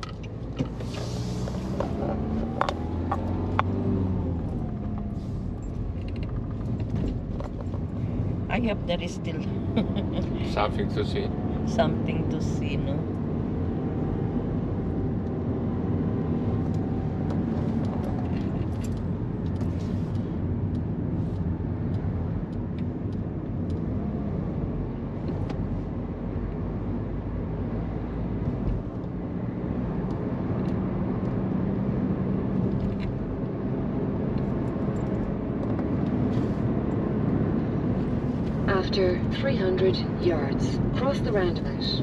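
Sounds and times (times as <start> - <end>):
tyre and engine rumble: 0.0 - 42.0.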